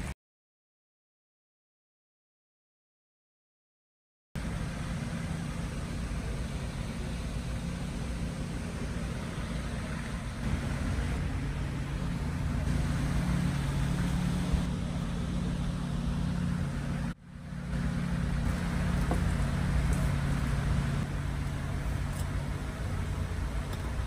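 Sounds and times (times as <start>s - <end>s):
distant traffic: 4.4s - 24.0s
low rumble with hum: 4.4s - 24.0s.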